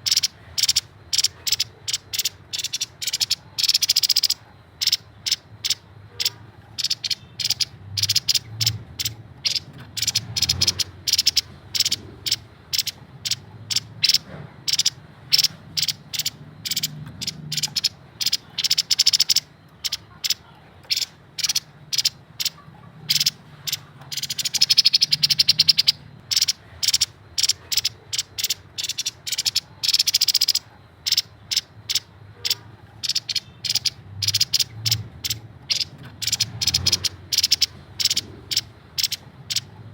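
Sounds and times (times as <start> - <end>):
bird calling with sharp notes: 0.0 - 39.8.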